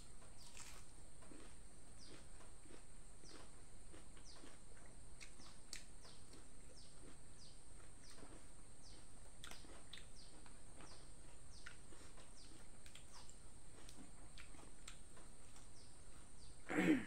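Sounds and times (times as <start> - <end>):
steady high-pitched hiss: 0.0 - 17.0
bird chirping: 2.0 - 3.5, 4.2 - 16.7.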